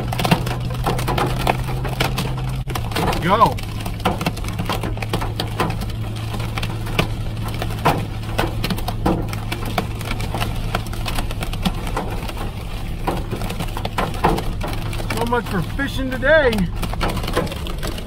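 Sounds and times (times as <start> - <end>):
car driving low hum: 0.0 - 18.0
hailstones striking a car: 0.0 - 18.0.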